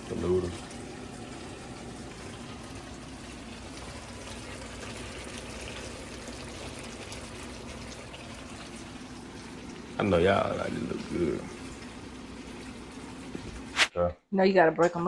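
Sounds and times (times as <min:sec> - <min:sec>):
food bubbling in a pot: 0:00.0 - 0:13.8.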